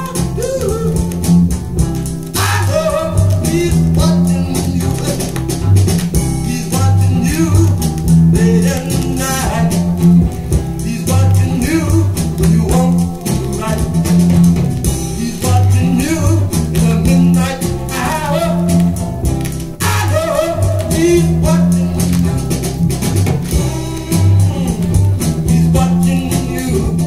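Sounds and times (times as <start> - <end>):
guitar: 0.0 - 27.0
repeating bass line: 0.0 - 27.0
vocal group singing gospel blues: 0.0 - 27.0.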